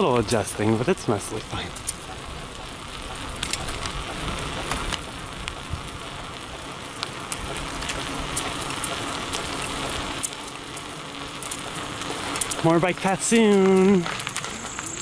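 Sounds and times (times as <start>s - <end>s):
bicycle ticks and clicks: 0.0s - 15.0s
bicycle tyres rolling on pavement: 0.0s - 15.0s.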